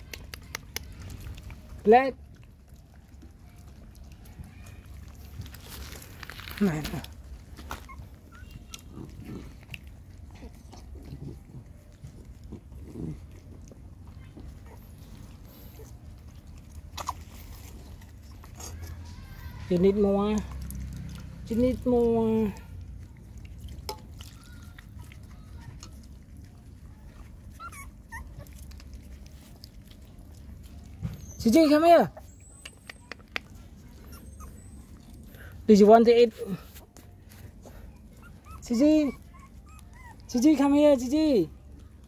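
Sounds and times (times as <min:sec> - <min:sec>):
dog chewing and slurping: 0:00.0 - 0:42.0
puppies grunting: 0:02.4 - 0:35.9, 0:37.6 - 0:42.0.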